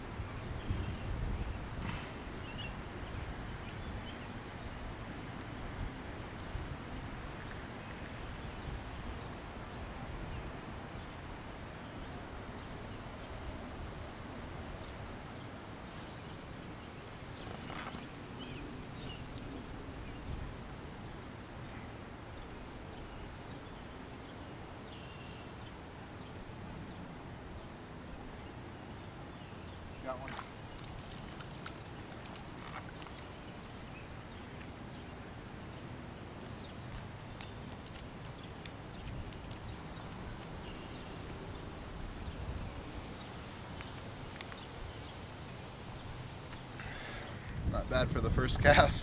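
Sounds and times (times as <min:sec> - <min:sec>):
wind rumbling on microphone: 0:00.0 - 0:23.9, 0:29.7 - 0:49.0.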